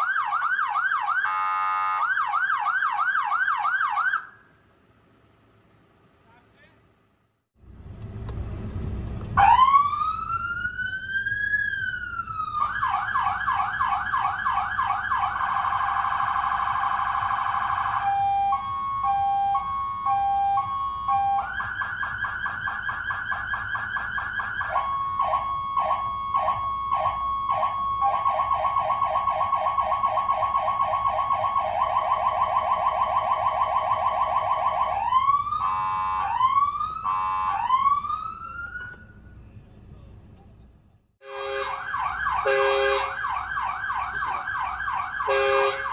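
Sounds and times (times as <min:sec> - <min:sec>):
fire engine siren: 0:00.0 - 0:04.6, 0:09.3 - 0:39.4, 0:41.2 - 0:45.9.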